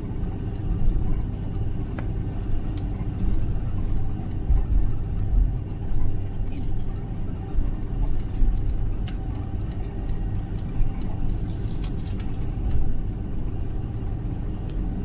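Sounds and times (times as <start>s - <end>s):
faint high whine: 0.0s - 15.0s
jet engines idling rumble: 0.0s - 15.0s.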